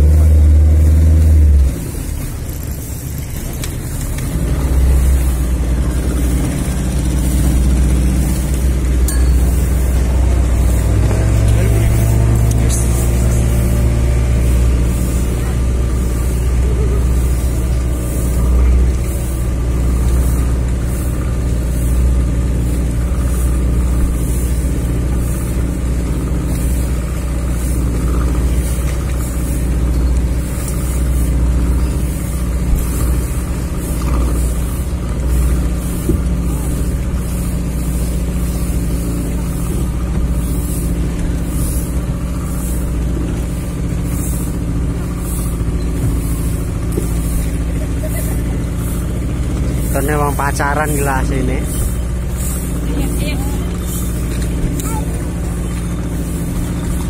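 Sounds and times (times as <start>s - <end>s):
speedboat engine idling: 0.0s - 57.0s.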